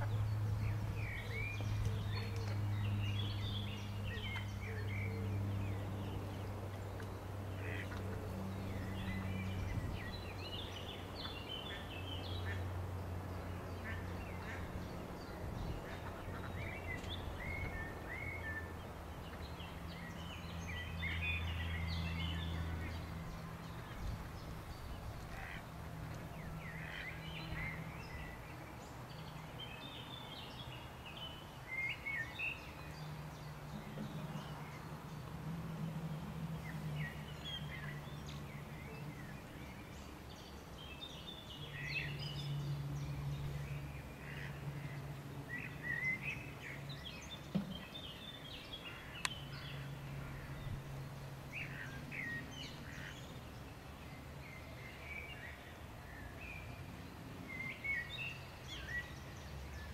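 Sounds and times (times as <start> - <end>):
low steady hum: 0.0 - 59.9
small birds chirping: 0.0 - 59.9.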